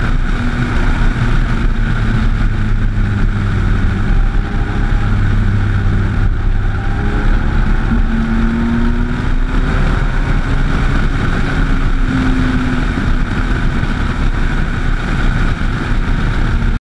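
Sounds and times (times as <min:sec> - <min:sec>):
motorcycle engine running: 0:00.0 - 0:16.8
wind rumble on microphone: 0:00.0 - 0:16.8.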